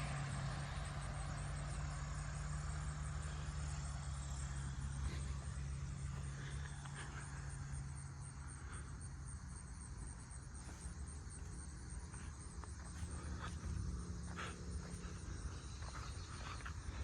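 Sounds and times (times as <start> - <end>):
crickets chirping: 0.0 - 17.0
faint low rumble: 0.0 - 17.0.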